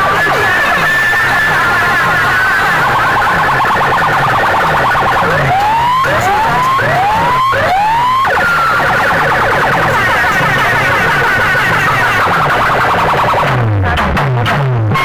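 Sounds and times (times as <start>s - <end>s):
rising siren whoops: 0.0s - 13.5s
fast chattering siren: 0.0s - 13.7s.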